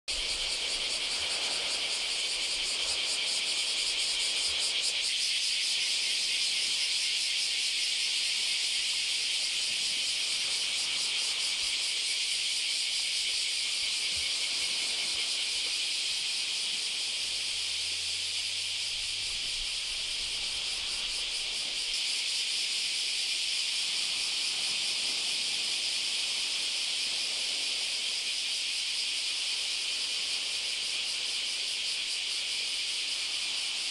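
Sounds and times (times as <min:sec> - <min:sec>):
insects buzzing: 0:00.1 - 0:33.9.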